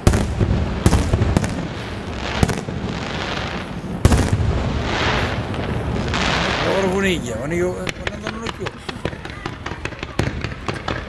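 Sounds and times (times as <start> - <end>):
crackling fizz of fireworks: 0.0 - 11.0
firework shells bursting: 0.0 - 11.0.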